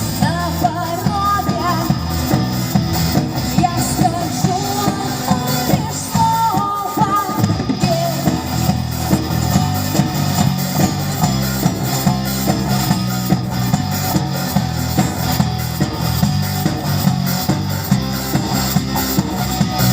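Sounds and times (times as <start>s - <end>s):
live rock band playing: 0.0s - 19.9s.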